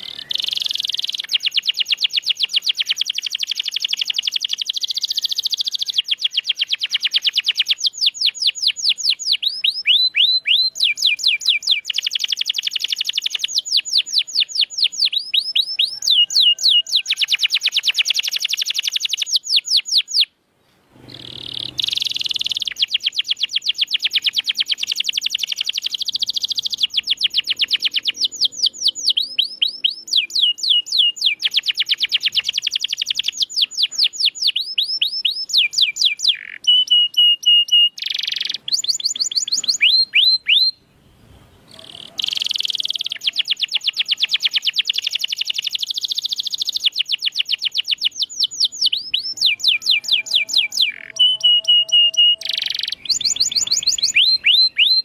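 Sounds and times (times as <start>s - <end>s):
canary singing trills: 0.0s - 20.3s, 21.0s - 55.0s.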